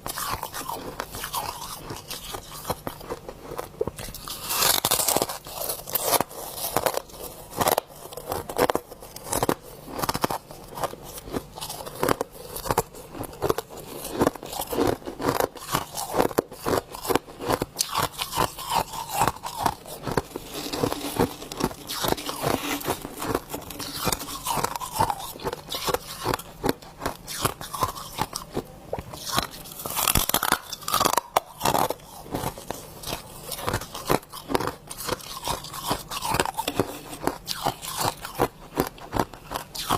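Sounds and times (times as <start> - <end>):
person crunching ice: 0.1 - 28.6, 29.2 - 39.9.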